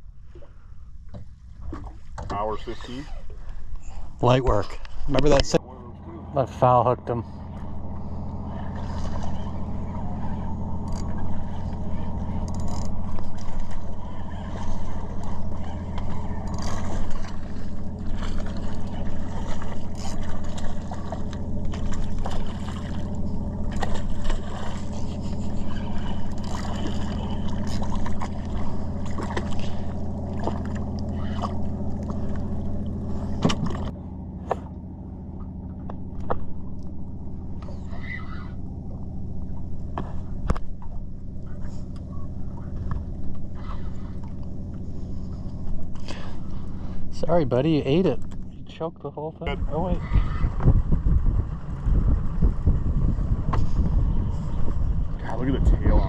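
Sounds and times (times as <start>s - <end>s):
boat motor humming: 0.0s - 56.0s.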